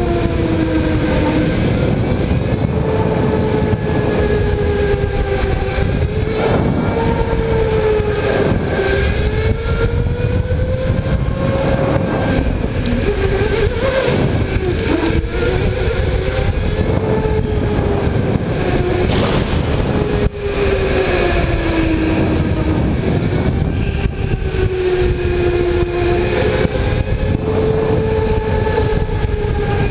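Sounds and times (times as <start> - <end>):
electric motor whining: 0.0 - 29.9
low rumble: 1.6 - 29.9.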